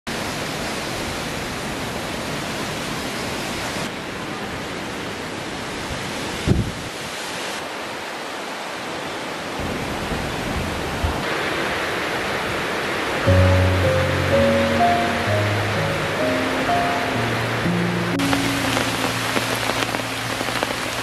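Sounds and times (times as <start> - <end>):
heavy rain on forest: 0.1 - 21.0.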